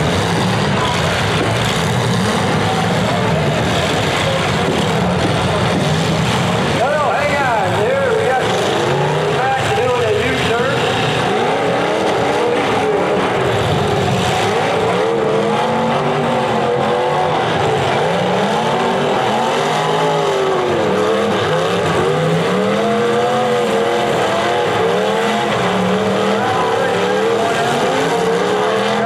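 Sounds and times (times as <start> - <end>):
car engines revving: 0.0 - 29.0
cars ramming each other: 0.0 - 29.0.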